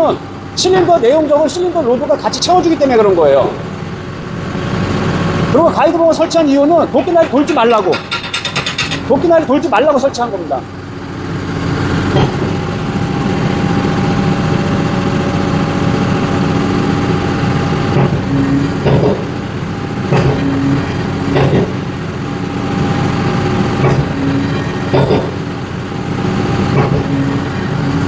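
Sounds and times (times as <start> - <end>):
hydraulic hum: 0.0 - 28.0
tractor diesel engine running: 0.0 - 28.0.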